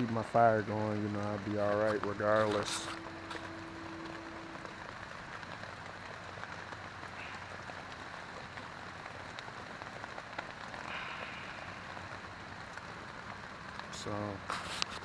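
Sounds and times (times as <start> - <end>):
rain on a tent: 0.0 - 15.0.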